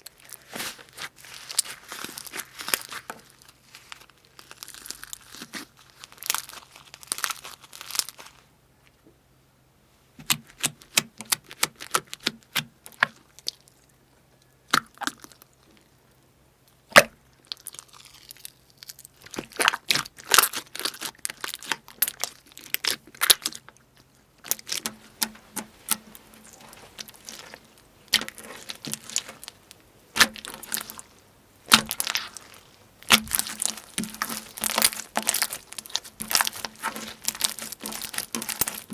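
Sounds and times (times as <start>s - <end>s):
crunchy slime crackling: 0.0s - 8.5s, 10.2s - 16.0s, 16.7s - 38.9s.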